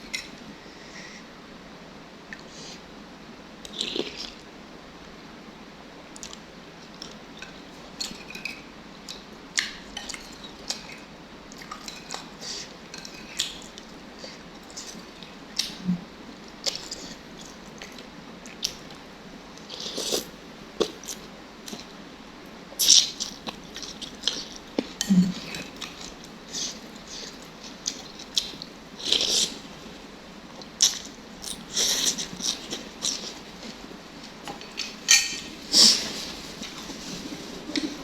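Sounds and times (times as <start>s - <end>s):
chewing noises: 6.2s - 22.0s, 22.8s - 38.0s.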